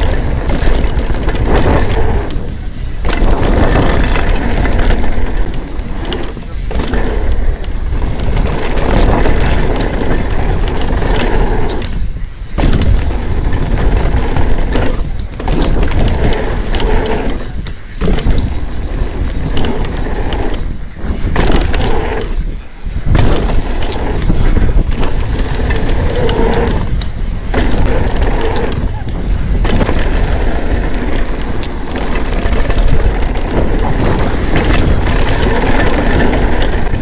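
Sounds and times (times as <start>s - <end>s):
bike rattling: 0.0s - 37.0s
bike tyres crunching on gravel: 0.0s - 37.0s
wind on microphone: 0.0s - 37.0s.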